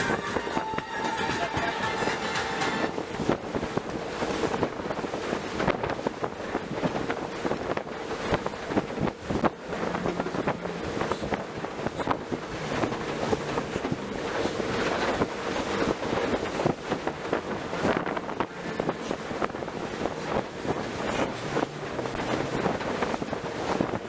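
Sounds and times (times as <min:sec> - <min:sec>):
motorboat engine drone: 0:00.0 - 0:24.0
rushing boat wake: 0:00.0 - 0:24.0
wind buffeting microphone: 0:00.0 - 0:24.0.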